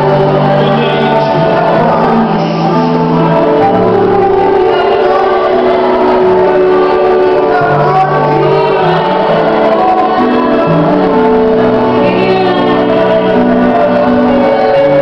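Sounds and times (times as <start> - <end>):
voices singing together: 0.0 - 15.0
worship band playing: 0.0 - 15.0.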